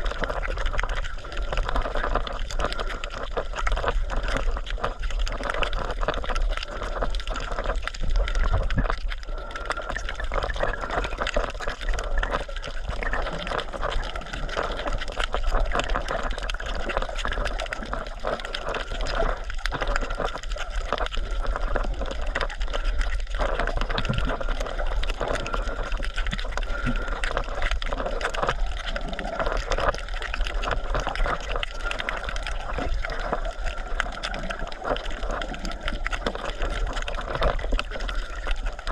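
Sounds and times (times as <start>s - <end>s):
dense crackle of small clicks: 0.0s - 38.9s
water sloshing and gurgling: 0.0s - 38.9s.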